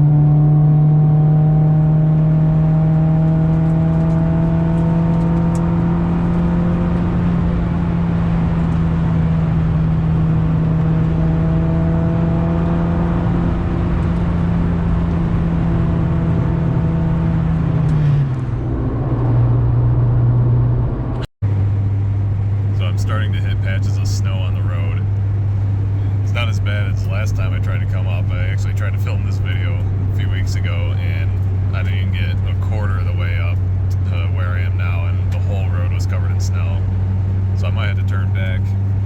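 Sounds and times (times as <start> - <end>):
four-cylinder engine at high revs: 0.0 - 39.0.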